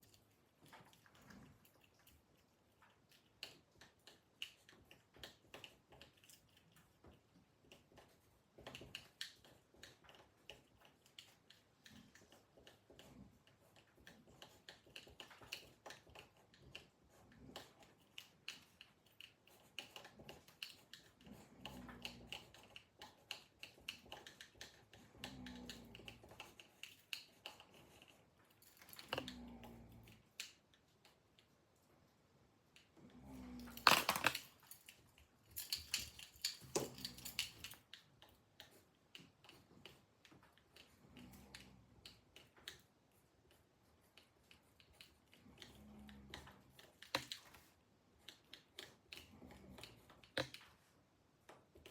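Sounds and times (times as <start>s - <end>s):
light clicks and ticks: 0.0s - 51.9s.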